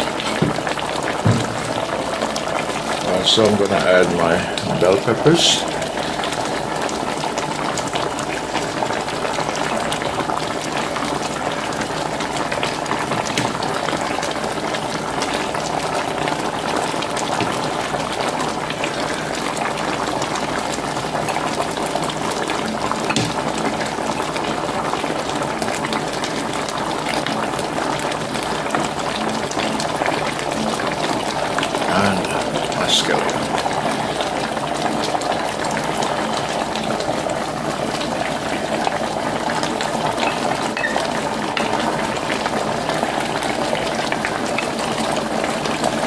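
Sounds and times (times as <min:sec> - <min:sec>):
gravy bubbling in a roasting pan: 0:00.0 - 0:46.0.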